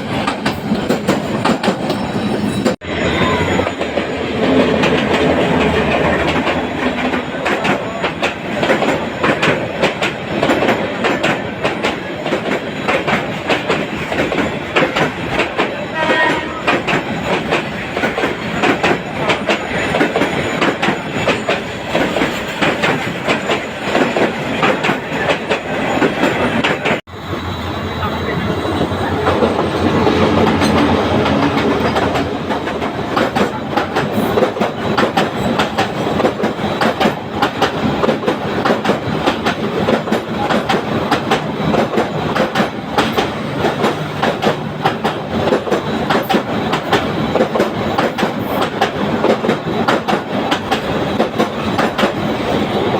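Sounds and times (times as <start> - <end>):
train wheels clacking on rails: 0.0 - 52.9.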